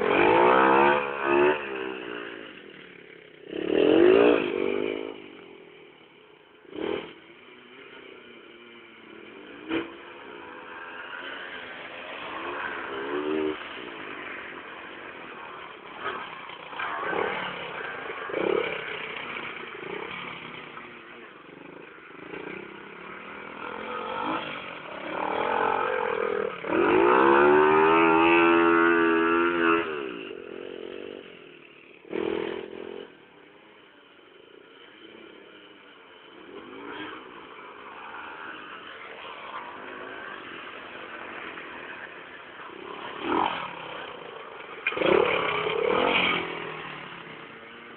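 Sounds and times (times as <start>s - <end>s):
mini motorbike engines revving: 0.0s - 47.9s.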